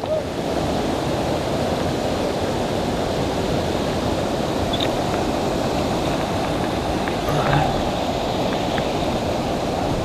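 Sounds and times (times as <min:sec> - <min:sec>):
creek water rushing: 0:00.0 - 0:10.0
wind buffeting microphone: 0:00.0 - 0:10.0.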